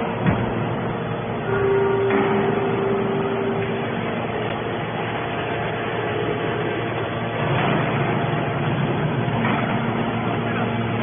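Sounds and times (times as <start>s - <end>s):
hydraulic baler running: 0.0s - 11.0s.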